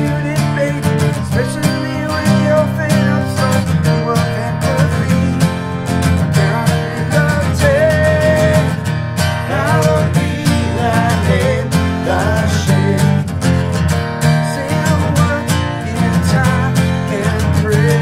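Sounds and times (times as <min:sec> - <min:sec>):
man singing: 0:00.0 - 0:13.7, 0:14.4 - 0:18.0
acoustic guitars strummed: 0:00.0 - 0:18.0.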